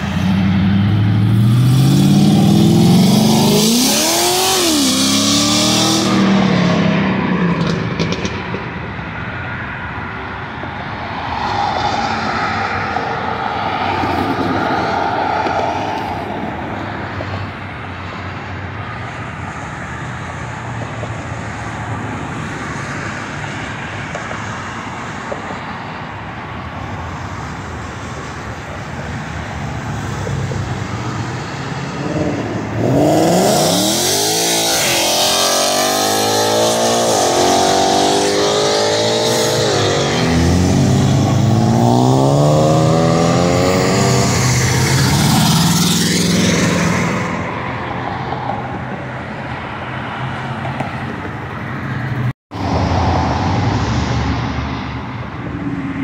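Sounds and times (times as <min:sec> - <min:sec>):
idling engines and traffic: 0:00.0 - 0:56.0.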